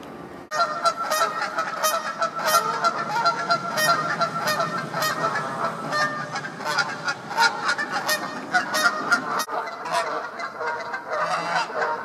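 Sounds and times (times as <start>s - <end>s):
geese honking: 0.5s - 12.0s.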